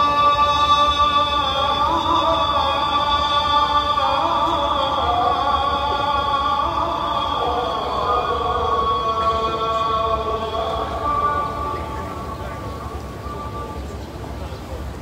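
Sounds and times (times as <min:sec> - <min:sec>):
call to prayer over loudspeakers: 0:00.0 - 0:15.0.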